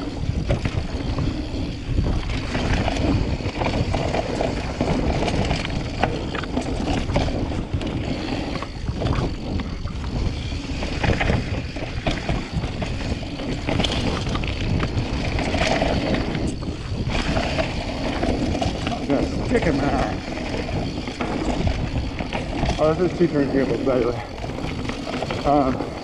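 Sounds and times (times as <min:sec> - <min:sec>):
bike rattling over bumps: 0:00.0 - 0:26.0
bike tyre rumble: 0:00.0 - 0:26.0
wind rushing on microphone: 0:00.0 - 0:26.0.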